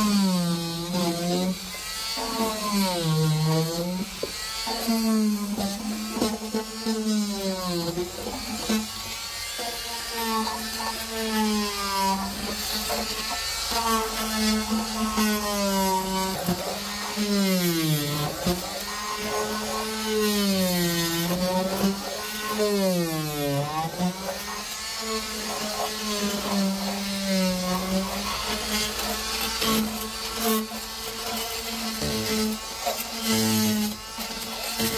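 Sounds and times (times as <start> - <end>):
oscillating multi-tool scraping: 0.0 - 34.9.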